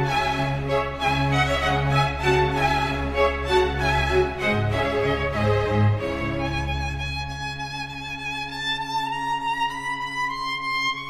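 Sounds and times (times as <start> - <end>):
string music: 0.0 - 11.0.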